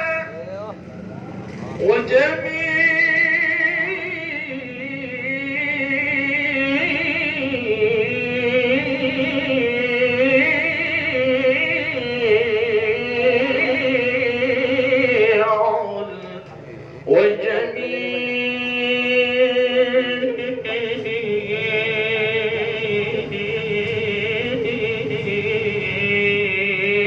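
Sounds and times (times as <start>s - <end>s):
man reciting melodically over loudspeaker: 0.0s - 0.9s, 1.6s - 27.0s.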